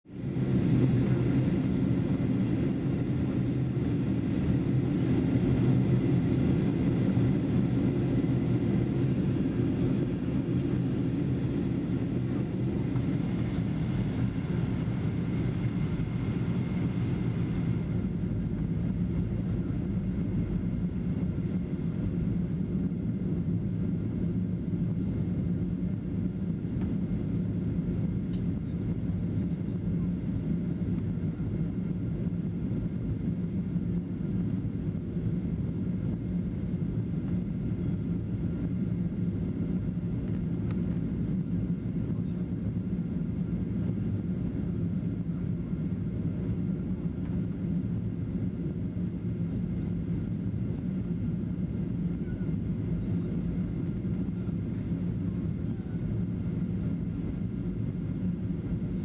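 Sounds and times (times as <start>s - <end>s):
airplane cabin drone: 0.1s - 59.0s.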